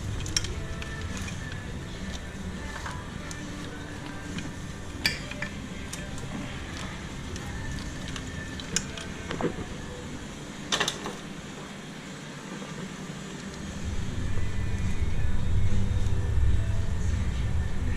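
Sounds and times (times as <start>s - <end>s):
low background noise: 0.0s - 17.9s.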